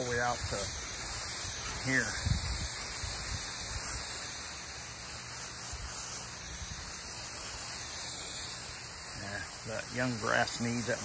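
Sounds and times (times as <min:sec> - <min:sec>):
hose spray hitting grass: 0:00.0 - 0:11.0.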